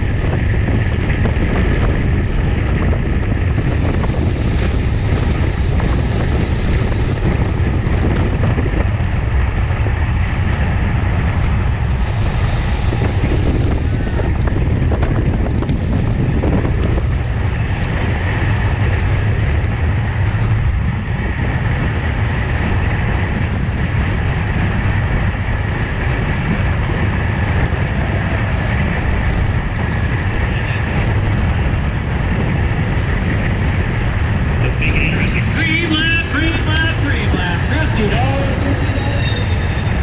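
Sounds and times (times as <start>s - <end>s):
wind rush and road noise: 0.0s - 40.0s.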